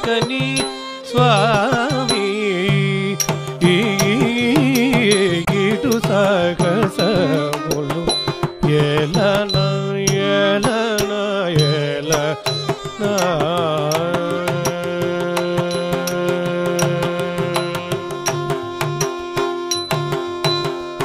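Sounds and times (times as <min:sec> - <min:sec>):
person singing ornamented melody: 0:00.0 - 0:20.8
drum strokes: 0:00.0 - 0:21.0.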